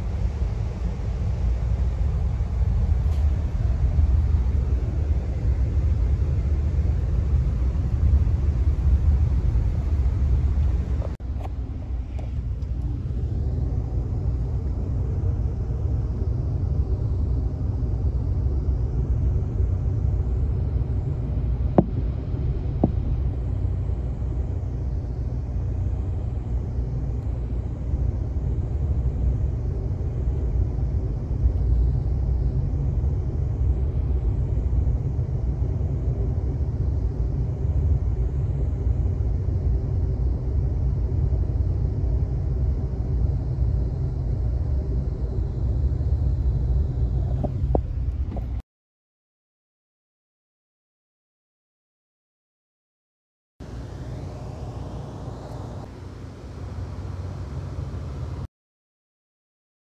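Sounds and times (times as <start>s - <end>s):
vehicle rumble from inside: 0.0s - 48.6s.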